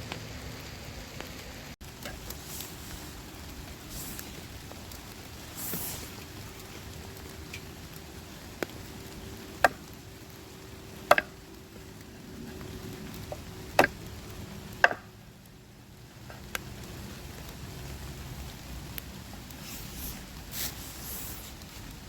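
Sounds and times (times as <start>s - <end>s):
rain patter: 0.0s - 22.0s.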